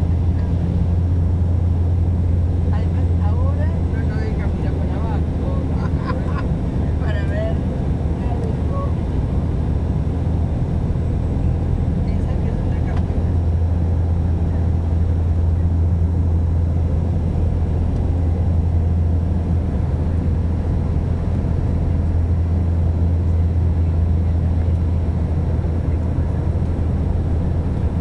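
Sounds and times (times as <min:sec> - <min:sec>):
airliner cabin drone: 0:00.0 - 0:28.0.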